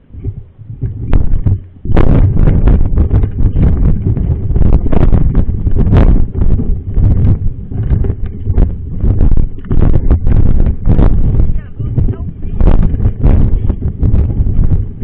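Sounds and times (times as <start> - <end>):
sharp knocks and rattles: 0.0 - 15.0
wind buffeting microphone: 0.0 - 15.0.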